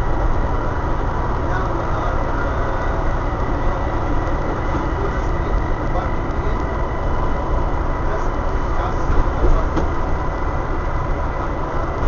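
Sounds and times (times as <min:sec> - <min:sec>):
bus diesel engine drone: 0:00.0 - 0:12.0
thin steady whine: 0:00.0 - 0:12.0.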